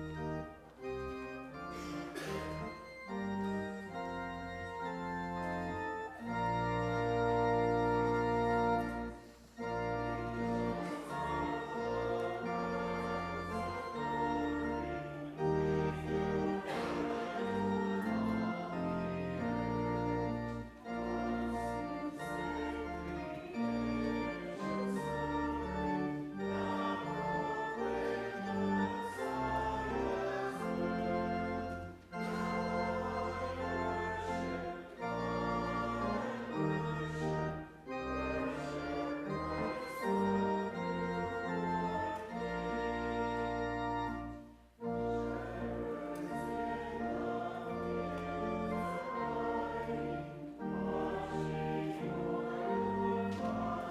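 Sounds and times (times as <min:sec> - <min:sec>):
church organ playing hymn: 0:00.0 - 0:53.9.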